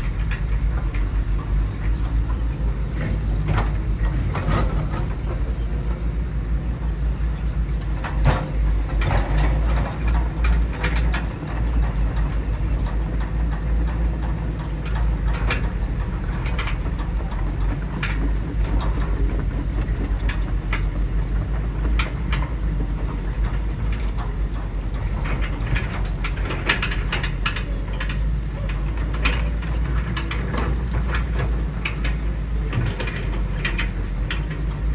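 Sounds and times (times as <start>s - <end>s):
motor and pump hum: 0.0s - 34.9s
tracks and buckets clattering: 0.0s - 34.9s.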